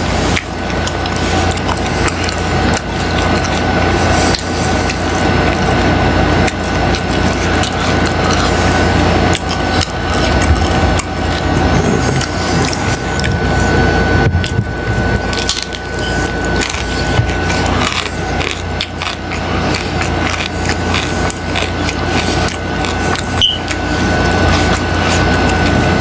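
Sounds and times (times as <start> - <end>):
crunchy taco chewing: 0.0 - 26.0
steady low hum: 0.0 - 26.0.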